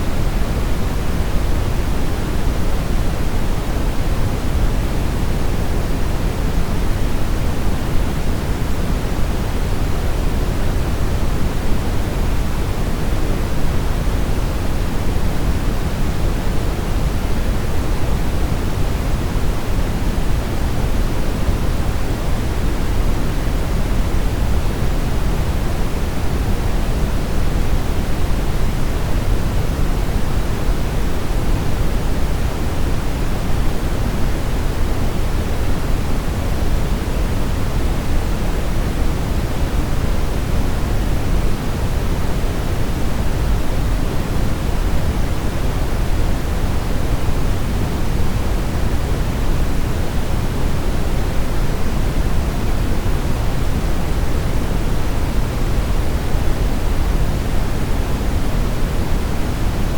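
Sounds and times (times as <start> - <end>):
brown noise hiss-rumble: 0.0 - 59.9.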